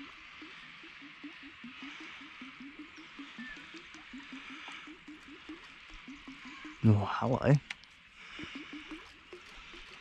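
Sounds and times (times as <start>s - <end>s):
animals chirping: 0.0s - 10.0s.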